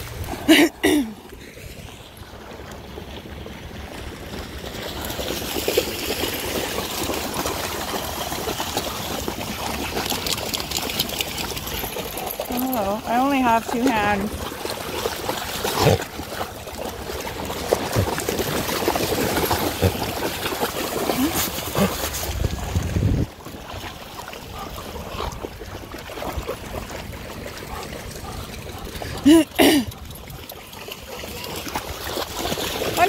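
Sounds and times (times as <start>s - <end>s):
seawater sloshing and splashing: 0.0s - 33.0s.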